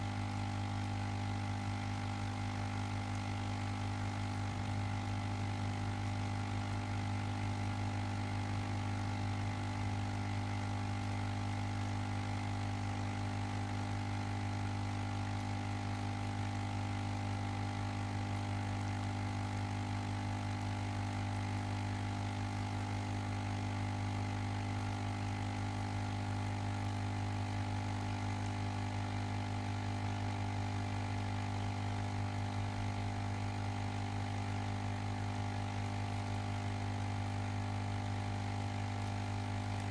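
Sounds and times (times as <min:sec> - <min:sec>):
ozone generator electrical hum: 0:00.0 - 0:39.9.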